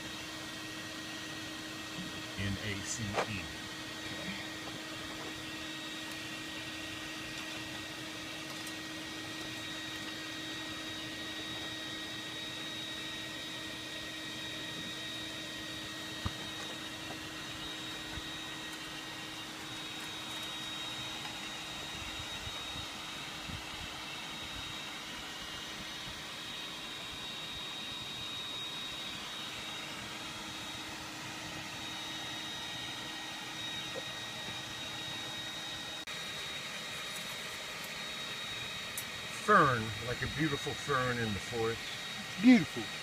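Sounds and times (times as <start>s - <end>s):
electric blower whirring: 0.0s - 43.0s.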